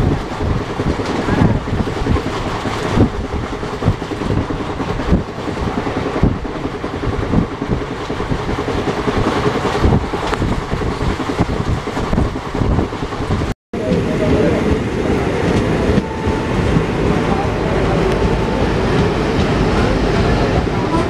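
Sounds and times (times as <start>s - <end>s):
train rumble and rush: 0.0s - 21.0s.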